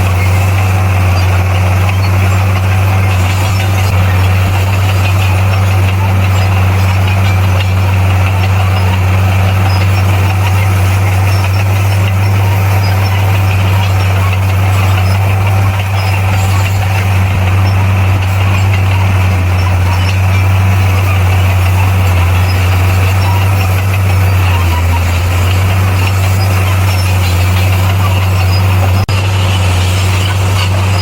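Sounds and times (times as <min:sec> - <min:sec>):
bulldozer diesel engine humming: 0:00.0 - 0:31.0.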